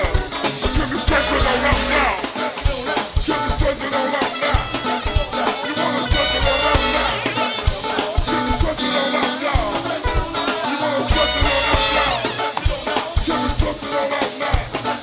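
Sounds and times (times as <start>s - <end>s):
funk band playing: 0.0s - 15.0s.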